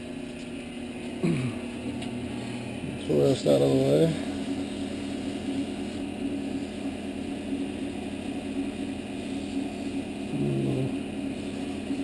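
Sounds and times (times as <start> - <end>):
wood lathe motor running: 1.0 - 12.0.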